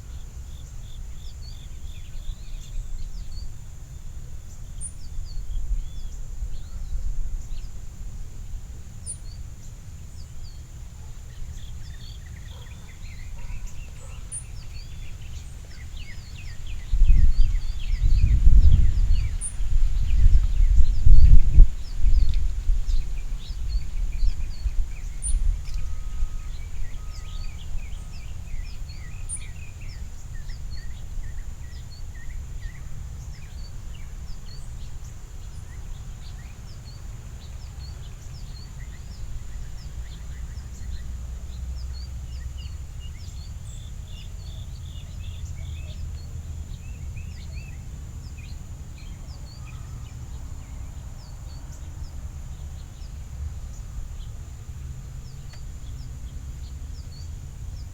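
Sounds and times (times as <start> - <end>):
steady low rumble: 0.0 - 49.2
low repeated bird notes: 0.0 - 57.9
songbirds chirping: 0.0 - 57.9.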